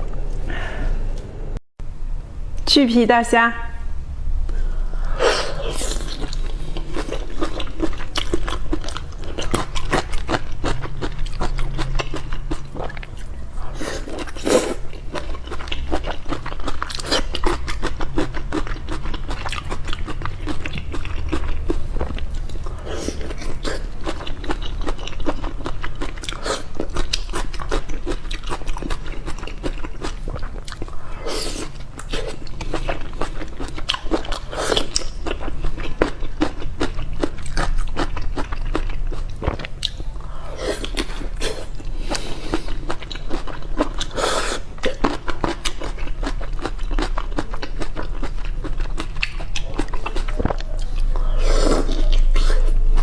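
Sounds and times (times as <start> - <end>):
wet chewing and biting: 5.0 - 40.1, 40.8 - 53.0.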